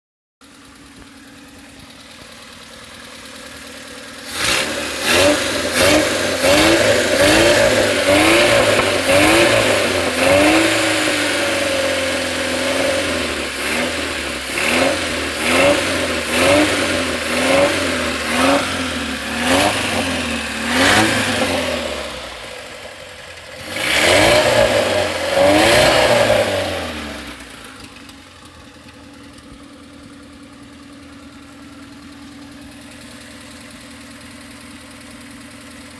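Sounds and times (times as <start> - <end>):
car engine revving: 0.6 - 35.3.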